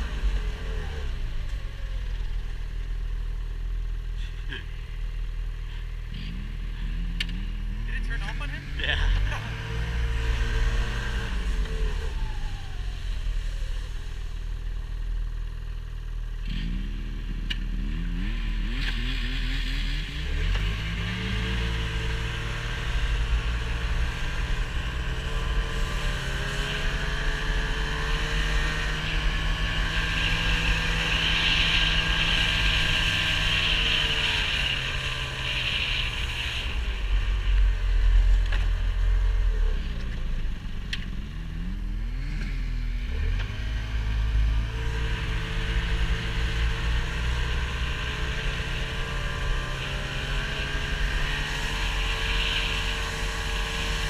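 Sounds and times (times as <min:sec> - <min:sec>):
vehicle engine revving: 0:00.0 - 0:54.0.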